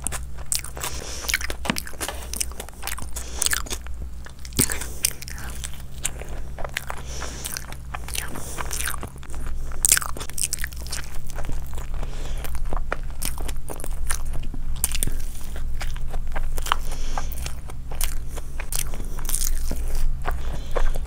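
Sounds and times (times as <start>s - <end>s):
person chewing crunchy food: 0.0s - 21.0s
steady low hum: 0.0s - 21.0s.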